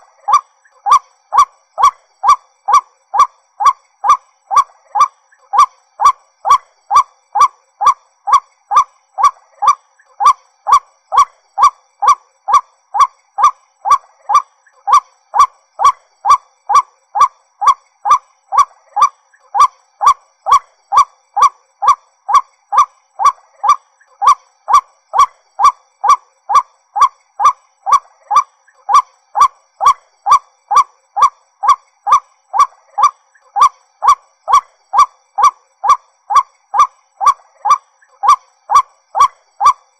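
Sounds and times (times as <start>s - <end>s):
waterhen croaking call: 0.0s - 39.9s.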